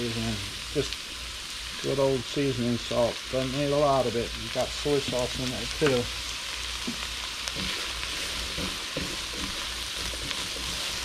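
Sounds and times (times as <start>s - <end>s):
spatula stirring vegetables: 0.0s - 11.0s
vegetables sizzling in a skillet: 0.0s - 11.0s.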